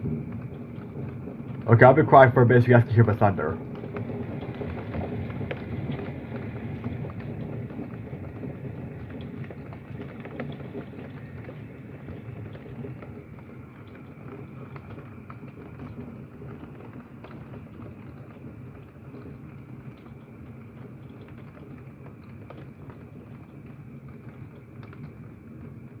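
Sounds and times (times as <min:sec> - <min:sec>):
heavy rain through a window: 0:00.0 - 0:26.0.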